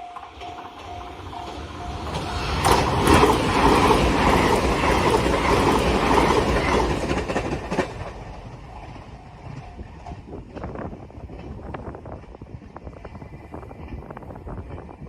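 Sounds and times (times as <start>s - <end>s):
electric train passing at speed: 0.0s - 15.0s
rail-joint clacks: 0.0s - 15.0s.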